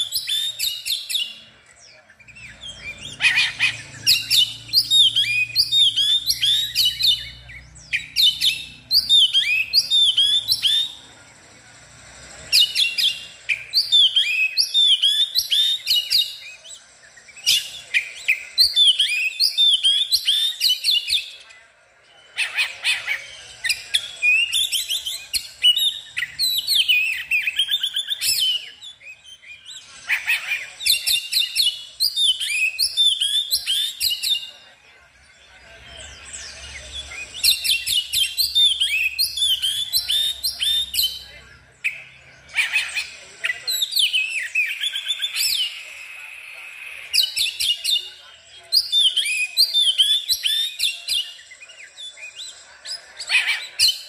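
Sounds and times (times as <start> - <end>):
songbird whistles and chirps: 0.0 - 11.2, 12.2 - 54.0.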